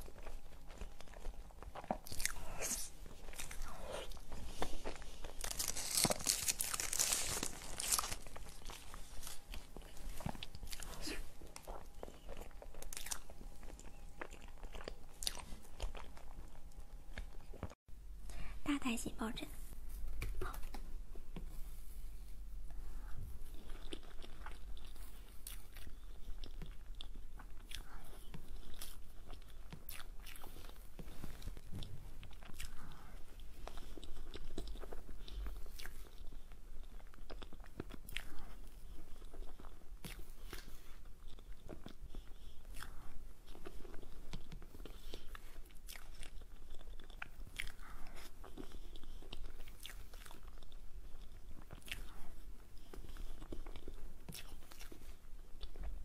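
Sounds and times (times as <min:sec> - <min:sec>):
chewing with clicks and smacks: 0:00.0 - 0:17.8, 0:23.4 - 0:56.0.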